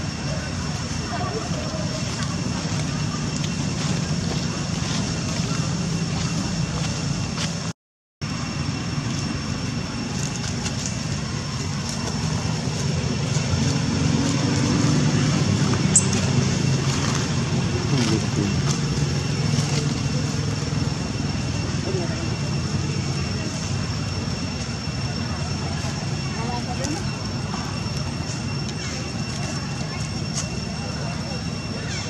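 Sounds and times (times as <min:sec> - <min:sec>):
low outdoor rumble: 0:00.0 - 0:32.0.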